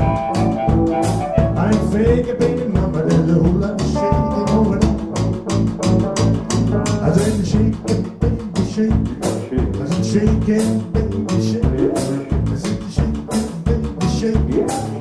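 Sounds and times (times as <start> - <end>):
bass line: 0.0 - 15.0
drum and cymbal hits: 0.0 - 15.0
guitar: 0.0 - 15.0.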